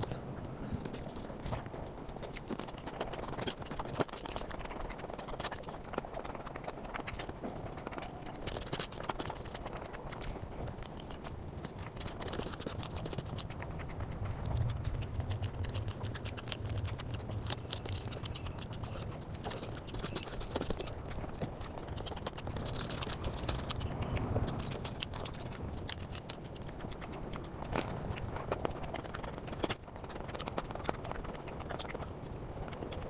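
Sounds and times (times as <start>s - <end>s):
sped up chewing sounds: 0.0s - 33.0s.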